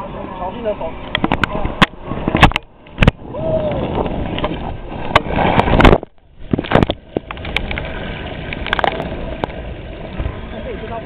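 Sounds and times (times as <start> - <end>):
rushing water: 0.0 - 11.0
wind buffeting microphone: 0.6 - 11.0.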